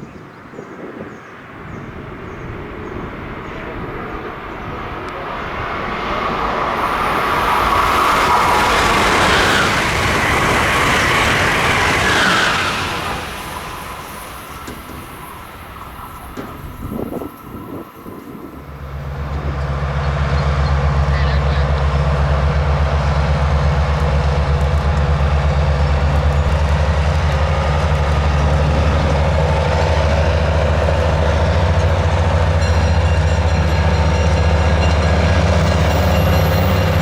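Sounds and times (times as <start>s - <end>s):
electric train passing: 0.3s - 37.0s.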